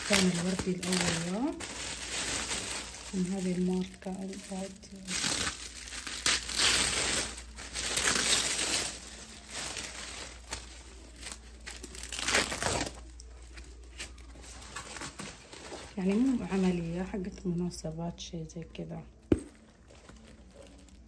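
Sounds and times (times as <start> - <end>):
plastic bag and foam crinkling: 0.0 - 21.0.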